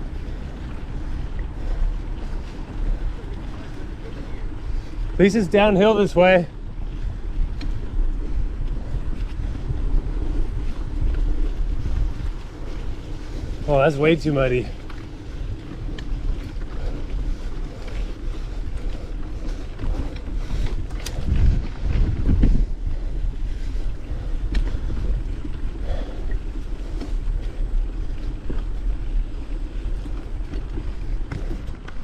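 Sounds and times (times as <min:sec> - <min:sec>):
wind buffeting microphone: 0:00.0 - 0:32.0
light ticks and rattles: 0:00.2 - 0:32.0.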